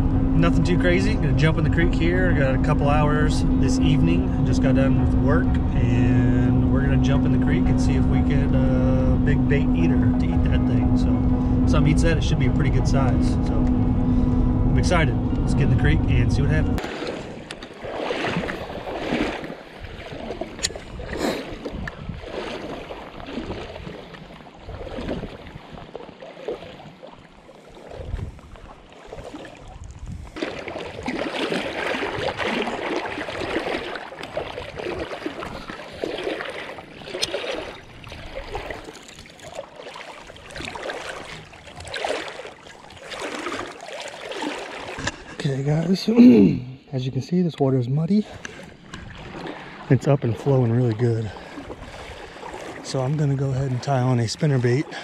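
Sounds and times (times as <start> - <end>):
creek water rushing and sloshing: 0.0 - 55.0.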